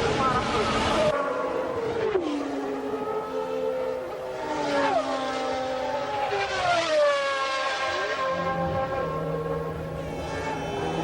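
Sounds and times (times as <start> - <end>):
racing car engine at high revs: 0.0 - 11.0.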